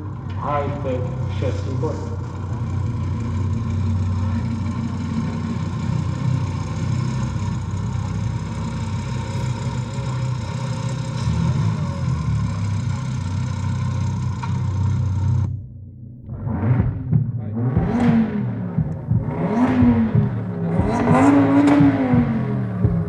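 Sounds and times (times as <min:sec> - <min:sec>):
car engine idling over loudspeakers: 0:00.0 - 0:15.6, 0:16.3 - 0:23.0.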